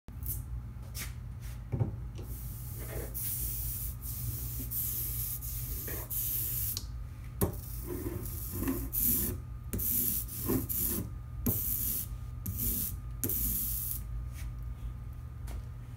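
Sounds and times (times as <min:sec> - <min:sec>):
steady low hum: 0:00.1 - 0:15.9.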